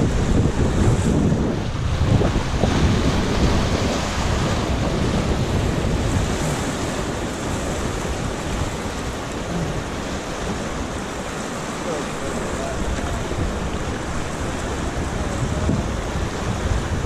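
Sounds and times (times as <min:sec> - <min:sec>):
whitewater rushing and splashing: 0:00.0 - 0:17.0.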